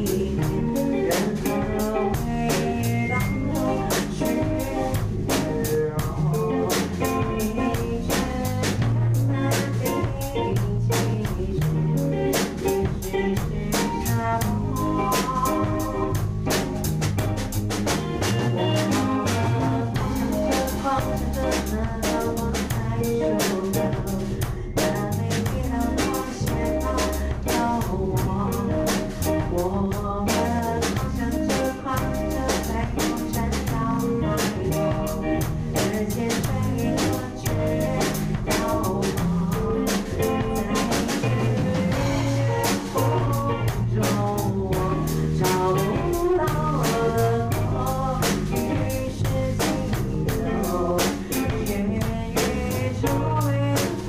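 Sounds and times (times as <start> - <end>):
band playing rock-pop: 0.0 - 54.0
bass line: 0.0 - 54.0
drum kit: 0.0 - 54.0.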